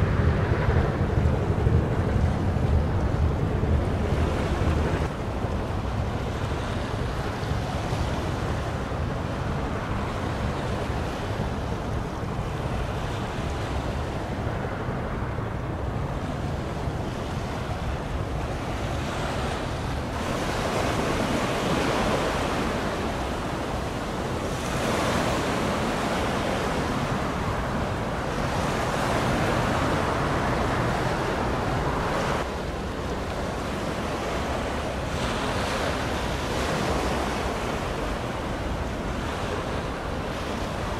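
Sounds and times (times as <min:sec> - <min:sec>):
sea water washing on shore: 0:00.0 - 0:40.9
wind on microphone: 0:00.0 - 0:40.9.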